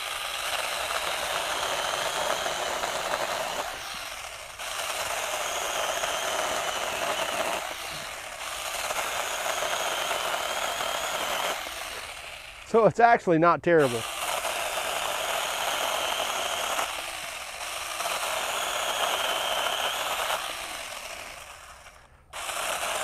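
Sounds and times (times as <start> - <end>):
small chainsaw cutting branch: 0.0 - 12.9, 13.8 - 23.0.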